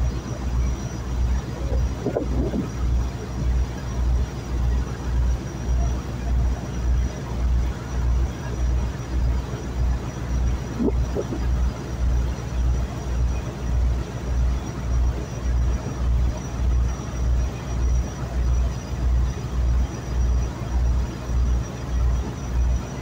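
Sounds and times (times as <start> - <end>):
boat engine throbbing: 0.0 - 23.0.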